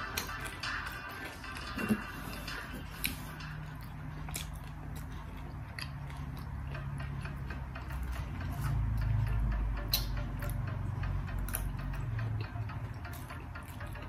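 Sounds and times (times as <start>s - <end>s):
chewing food: 0.0s - 14.0s
low steady hum: 0.0s - 14.0s.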